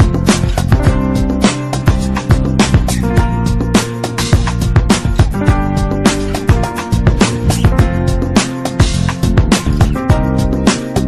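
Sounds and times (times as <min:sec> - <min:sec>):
upbeat guitar music: 0:00.0 - 0:11.0.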